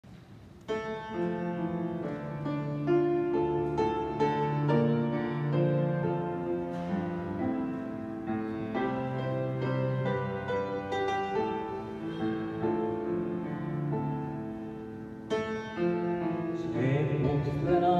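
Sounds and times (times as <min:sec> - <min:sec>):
piano playing slow chords: 0:00.3 - 0:17.9.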